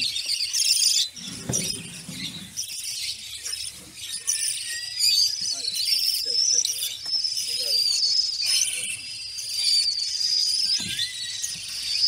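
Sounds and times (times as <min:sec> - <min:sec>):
caged birds chirping and trilling: 0:00.0 - 0:12.0.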